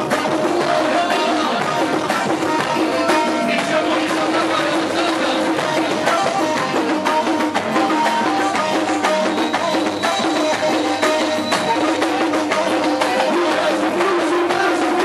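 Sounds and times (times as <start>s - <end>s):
goblet drum played fast: 0.0s - 15.0s.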